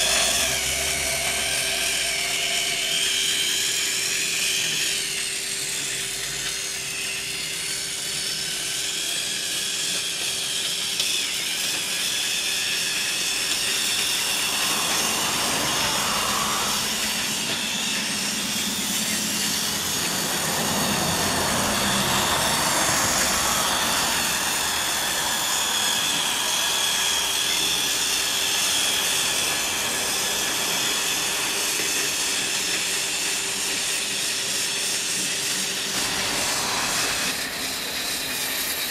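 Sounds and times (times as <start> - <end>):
toy train motor whining: 0.0 - 38.9.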